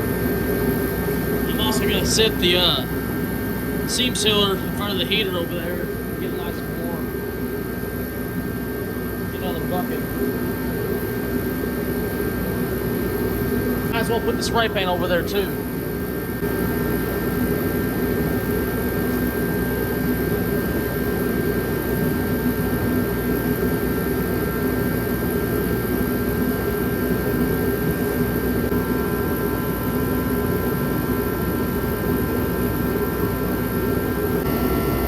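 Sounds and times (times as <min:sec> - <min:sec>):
kerosene heater running: 0:00.0 - 0:35.0.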